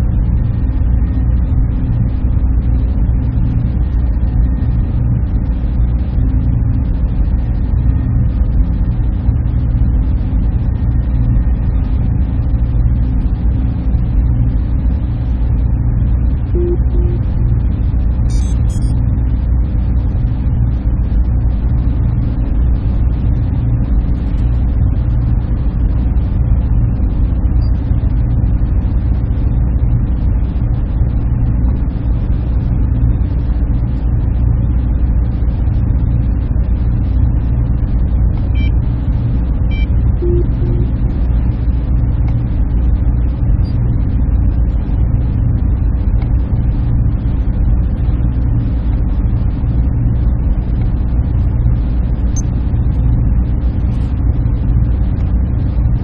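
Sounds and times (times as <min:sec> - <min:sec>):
cooling fans humming: 0:00.0 - 0:56.0.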